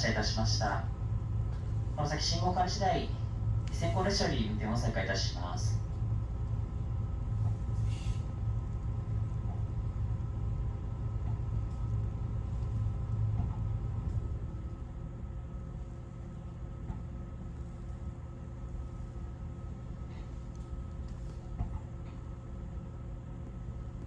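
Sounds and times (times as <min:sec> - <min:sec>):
train equipment low rumble: 0:00.0 - 0:24.0.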